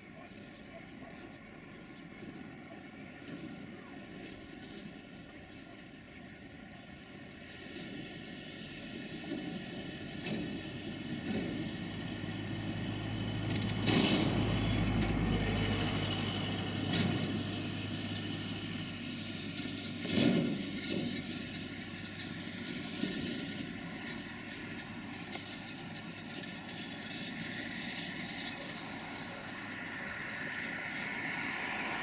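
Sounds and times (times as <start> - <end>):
diesel locomotive engine: 0.0 - 32.0
wheels clacking over rail joints: 0.0 - 32.0.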